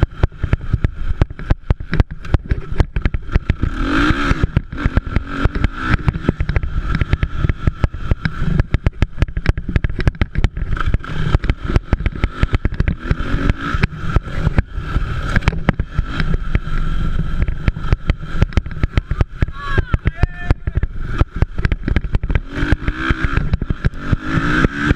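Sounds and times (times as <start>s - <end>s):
crackling and knocking on microphone: 0.0s - 24.9s
dirt bike engines revving: 0.0s - 24.9s.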